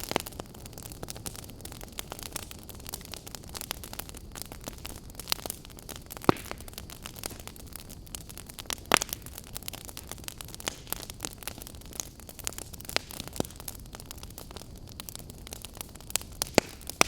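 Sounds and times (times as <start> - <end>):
campfire crackling: 0.0 - 17.0
fire popping: 0.0 - 17.0
steady hiss: 0.0 - 17.0.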